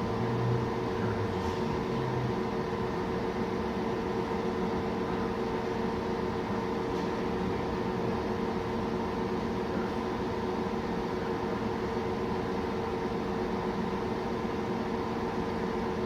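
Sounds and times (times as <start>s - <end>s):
machine fan humming: 0.0s - 16.0s.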